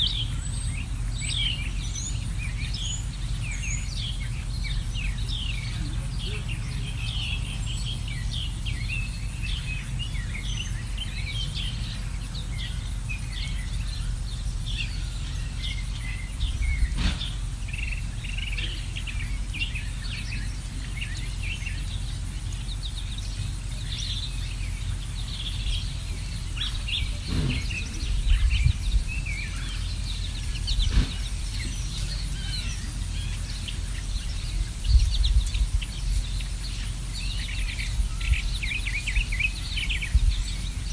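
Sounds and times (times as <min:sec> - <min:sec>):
low background rumble: 0:00.0 - 0:40.9
songbirds chirping and twittering: 0:00.0 - 0:40.9
low bumps: 0:00.1 - 0:40.9.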